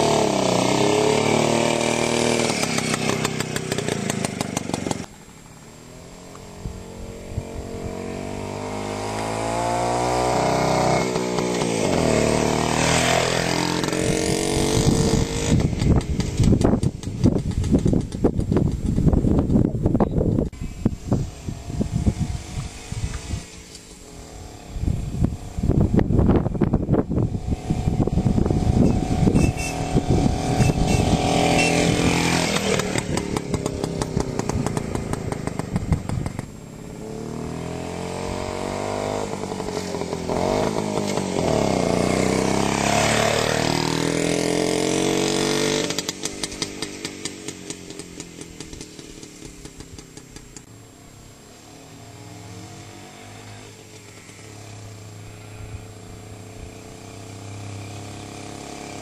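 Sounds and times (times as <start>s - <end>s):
two-stroke engine revving: 0.0s - 5.1s, 6.0s - 18.5s, 21.6s - 50.1s, 51.6s - 59.0s.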